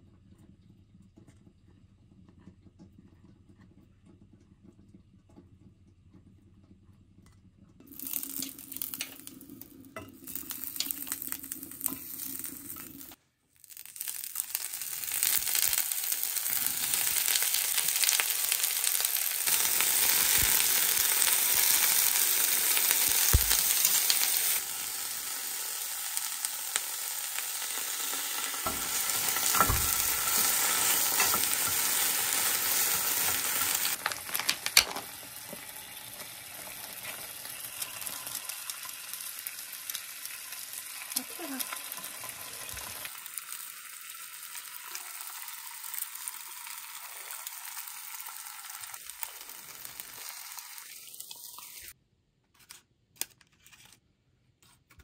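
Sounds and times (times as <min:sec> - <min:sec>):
food sizzling in oil: 0:07.8 - 0:52.0.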